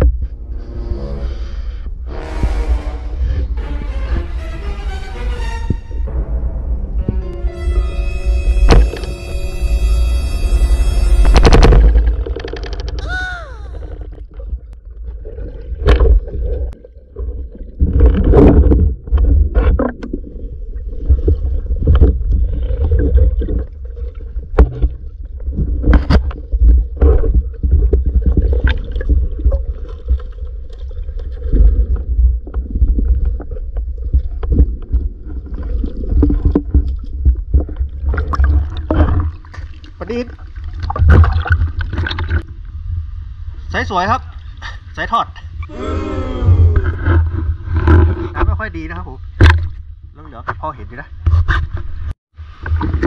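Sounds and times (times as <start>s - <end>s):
underwater rumble of moving water: 0.0s - 5.0s, 5.9s - 50.2s.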